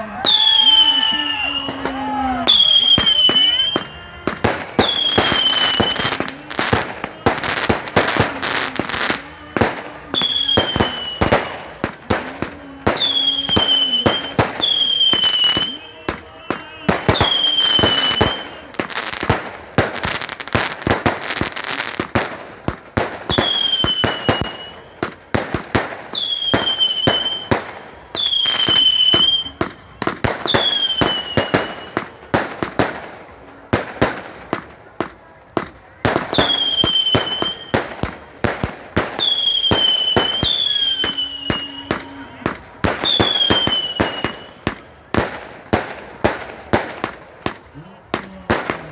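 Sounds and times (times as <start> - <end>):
fireworks bangs and crackles: 0.0 - 48.9
whistling fireworks: 0.0 - 48.9.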